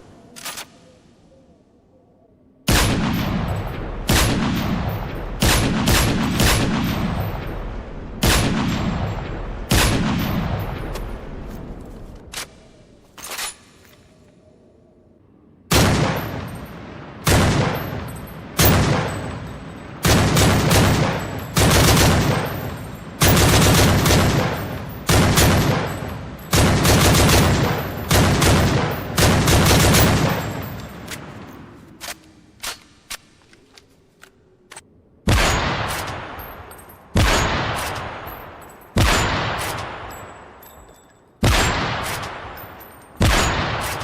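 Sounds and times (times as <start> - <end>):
gunshots and automatic bursts: 2.7 - 13.9, 15.7 - 33.7, 34.7 - 44.0.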